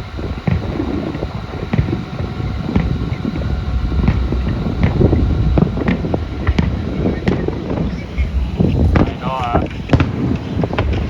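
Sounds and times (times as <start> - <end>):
wind rumble on microphone: 0.0 - 11.0
distant fireworks popping: 0.3 - 11.0.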